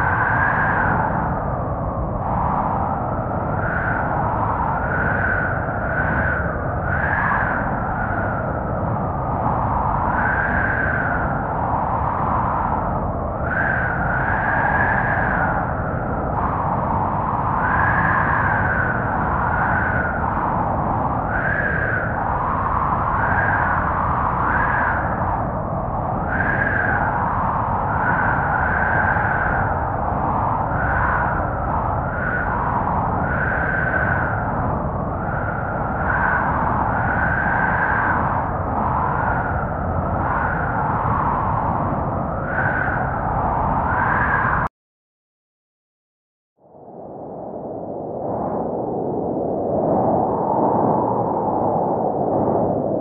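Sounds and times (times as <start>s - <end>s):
howling wind: 0.0s - 44.7s, 46.6s - 53.0s.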